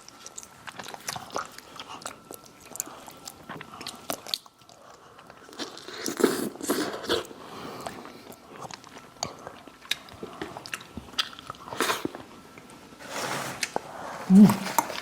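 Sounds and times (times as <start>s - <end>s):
person chewing crunchy food: 0.0s - 12.4s.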